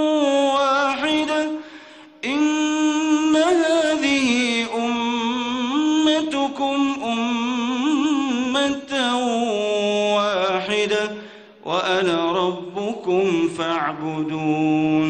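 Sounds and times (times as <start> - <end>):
person reciting melodically: 0.0 - 15.0.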